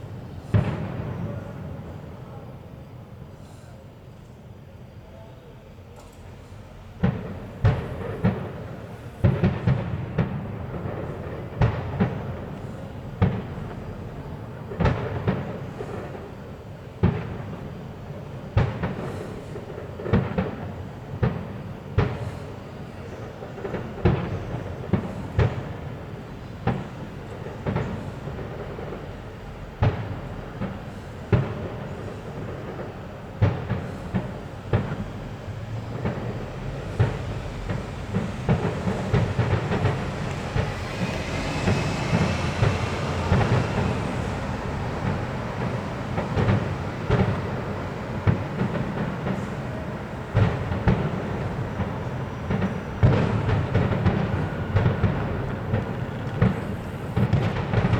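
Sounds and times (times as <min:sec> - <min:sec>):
fireworks bangs and crackling: 0:00.0 - 0:03.4, 0:05.9 - 0:57.9.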